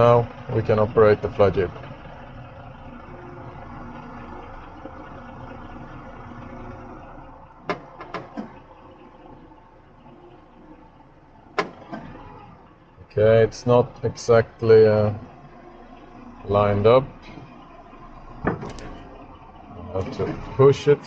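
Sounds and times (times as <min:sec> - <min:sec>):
truck engine and hydraulic pump: 0:00.0 - 0:21.0.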